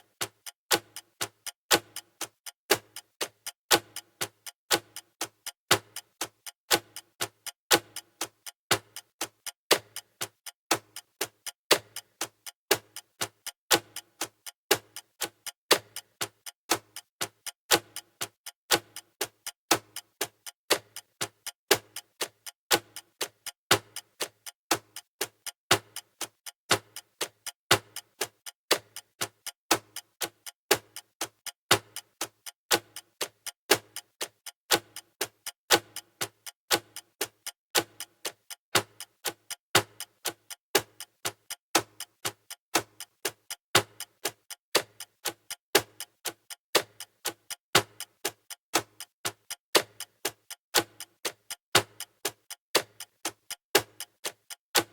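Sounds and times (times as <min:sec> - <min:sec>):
clock ticking: 0:00.0 - 0:54.9.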